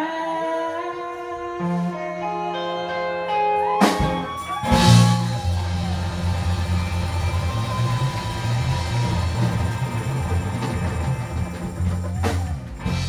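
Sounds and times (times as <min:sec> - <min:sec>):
electric guitar sustained notes: 0:00.6 - 0:13.0
rock band playing: 0:01.6 - 0:13.0.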